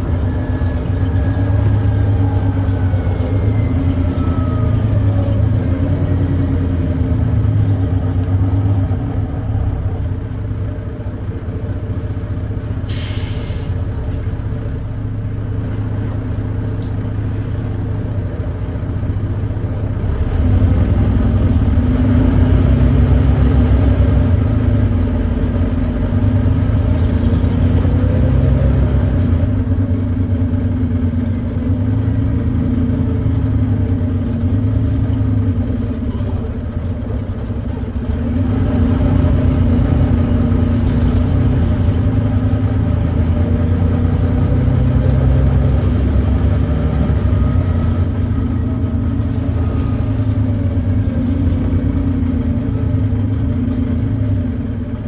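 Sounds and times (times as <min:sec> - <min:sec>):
diesel bus engine under load: 0:00.0 - 0:55.0.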